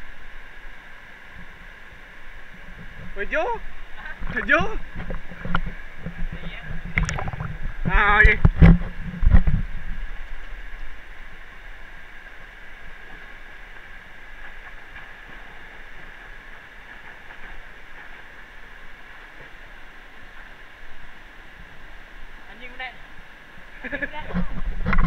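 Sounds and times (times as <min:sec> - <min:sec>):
stream water flowing: 0:00.0 - 0:25.0.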